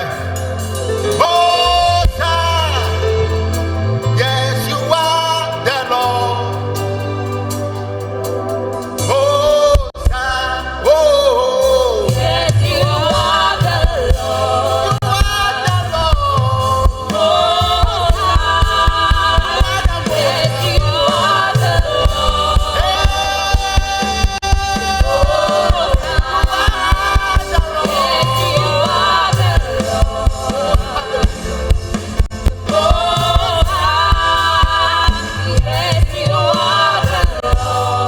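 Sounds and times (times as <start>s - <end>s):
band with drum beat and bass: 0.0s - 38.0s
choir singing: 0.0s - 38.0s.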